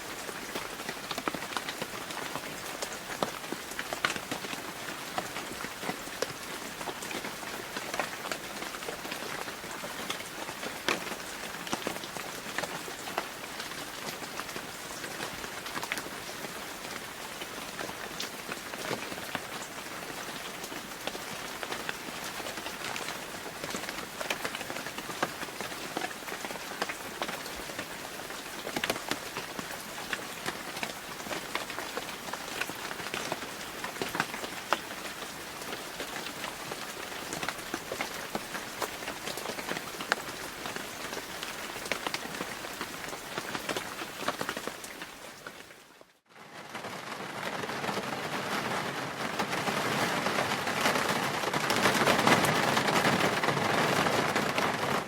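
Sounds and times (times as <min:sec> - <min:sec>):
rain pattering on hard surface: 0:00.0 - 0:55.0.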